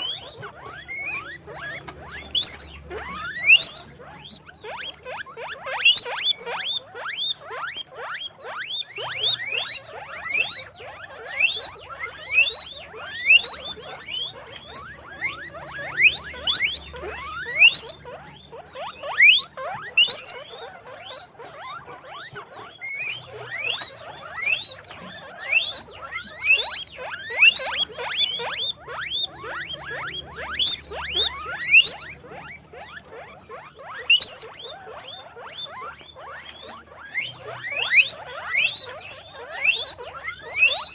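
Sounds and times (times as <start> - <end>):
guinea pigs squeaking: 0.0 - 40.9.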